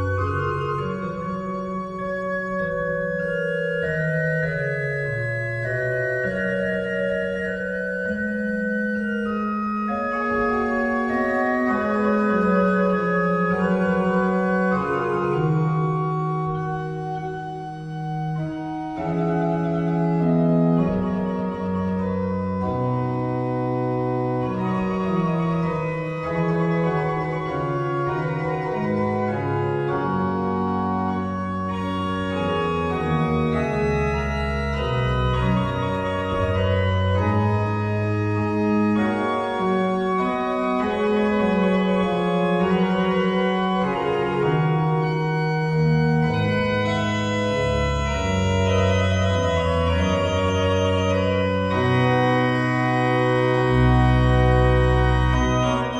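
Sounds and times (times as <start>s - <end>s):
pipe organ chords: 0.0s - 55.9s.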